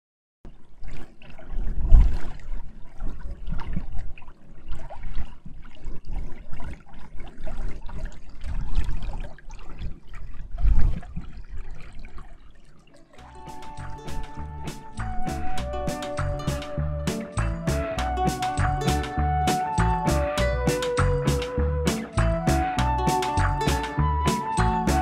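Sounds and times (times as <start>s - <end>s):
water running in a channel: 0.5s - 25.0s.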